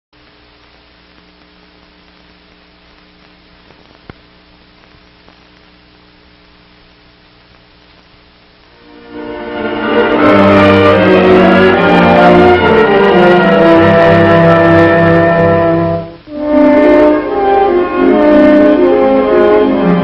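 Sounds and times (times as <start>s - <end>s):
film soundtrack hiss and hum: 0.1s - 20.0s.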